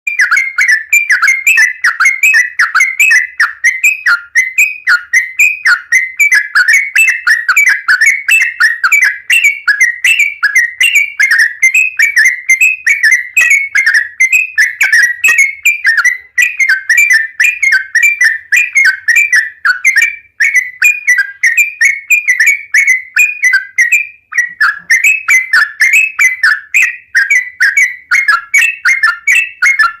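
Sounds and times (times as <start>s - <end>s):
bird singing whistled notes: 0.1s - 30.0s.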